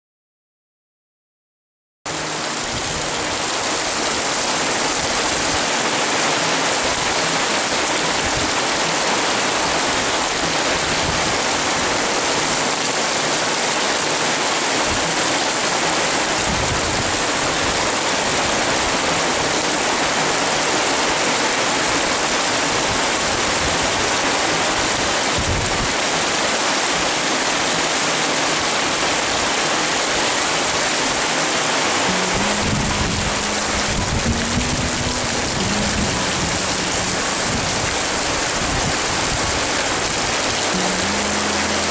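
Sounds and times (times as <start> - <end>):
heavy rain pouring: 2.1 - 41.9.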